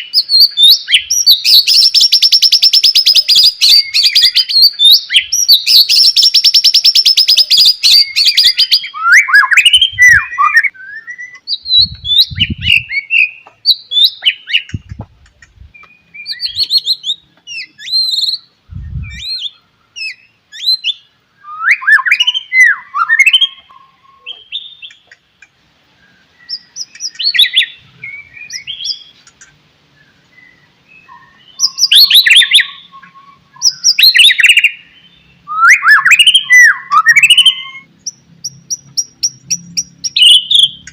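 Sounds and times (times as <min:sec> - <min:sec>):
bird singing whistled phrases: 0:00.0 - 0:14.9, 0:15.7 - 0:25.0, 0:26.1 - 0:29.1, 0:30.0 - 0:37.9, 0:38.7 - 0:40.9.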